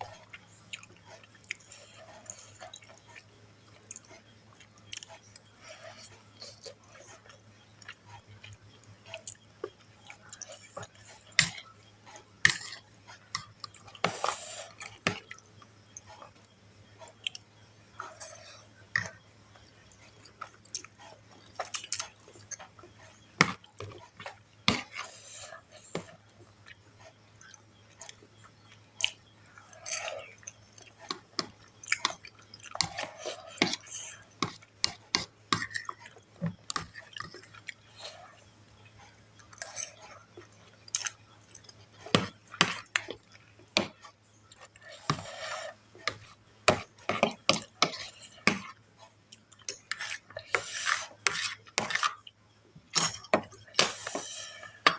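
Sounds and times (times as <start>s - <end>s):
chewing noodles: 0.0s - 54.9s.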